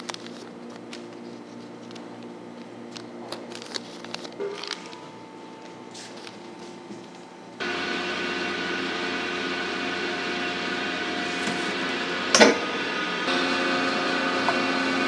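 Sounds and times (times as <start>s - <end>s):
vacuum machine humming: 0.0s - 15.0s.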